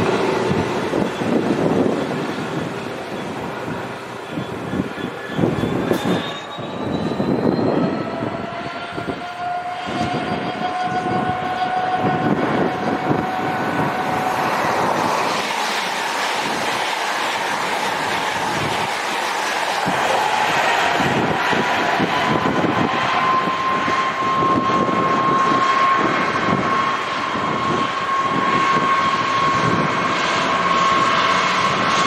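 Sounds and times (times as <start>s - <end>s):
high-speed train passing: 0.0s - 32.0s
rush of wheels on rail: 0.0s - 32.0s
train whine rising in pitch: 0.0s - 32.0s.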